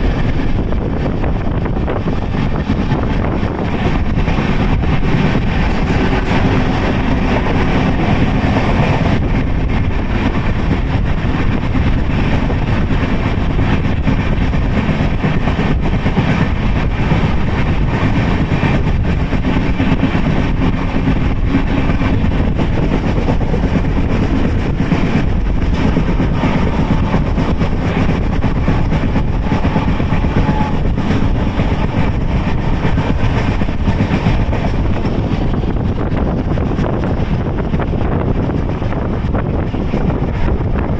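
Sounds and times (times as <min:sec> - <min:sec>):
rushing air: 0:00.0 - 0:40.9
train wheels rumbling on rails: 0:00.0 - 0:40.9.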